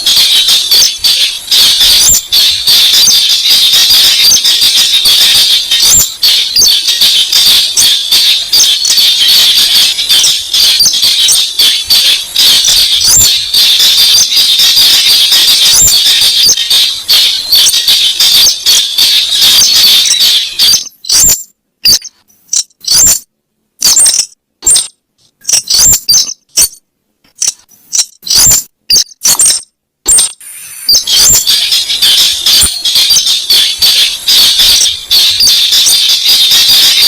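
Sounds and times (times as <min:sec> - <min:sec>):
bird squeaky notes: 0:00.0 - 0:26.8, 0:27.4 - 0:37.0.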